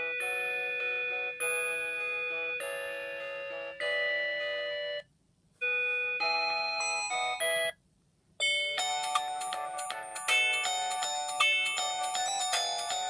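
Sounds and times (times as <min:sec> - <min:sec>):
polyphonic ringtone melody: 0:00.0 - 0:05.0, 0:05.6 - 0:07.8, 0:08.4 - 0:13.0.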